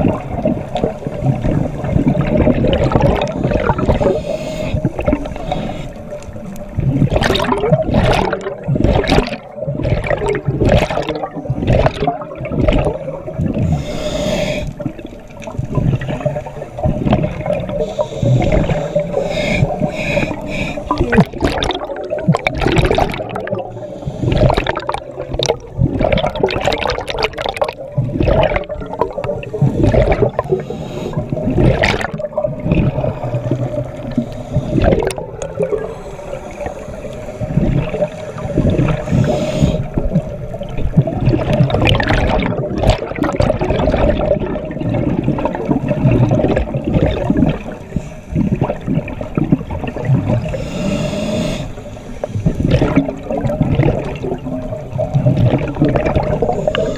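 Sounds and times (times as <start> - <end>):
divers' exhaled air bubbles: 0.0 - 56.9
underwater water gurgling: 0.0 - 56.9.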